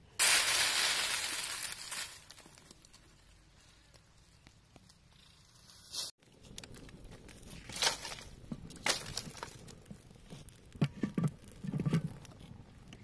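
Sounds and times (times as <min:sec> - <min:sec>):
fire sticks crackling: 0:00.0 - 0:05.0, 0:06.0 - 0:13.0.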